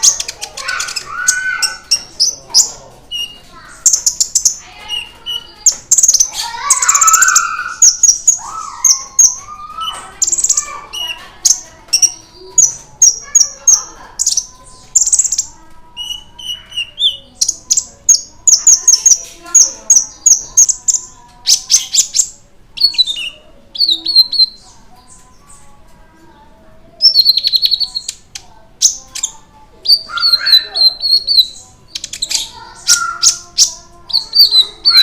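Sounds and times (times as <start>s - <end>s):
bird chirping: 0.0s - 35.0s.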